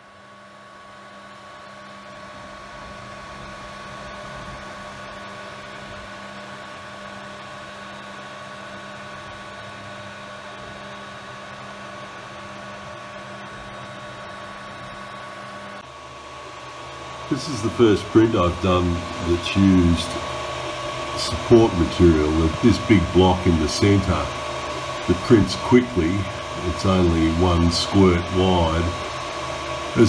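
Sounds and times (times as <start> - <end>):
printer fans whirring: 0.0 - 30.0
printer motor hum and whine: 0.0 - 30.0.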